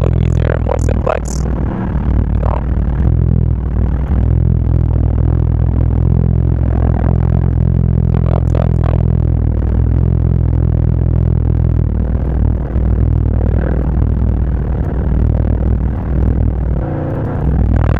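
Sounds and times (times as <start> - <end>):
car engine drone from inside: 0.0 - 17.9.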